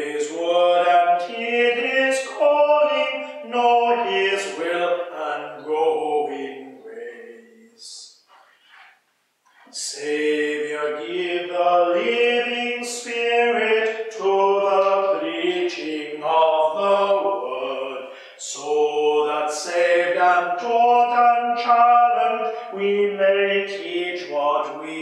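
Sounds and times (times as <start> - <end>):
person singing a slow hymn: 0.0 - 8.4, 9.6 - 25.0.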